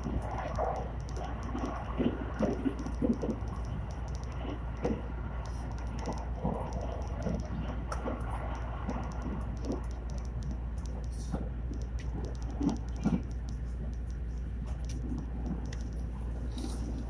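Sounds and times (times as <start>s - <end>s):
light clicks and rattles: 0.0s - 17.0s
train interior rumble: 0.0s - 17.0s.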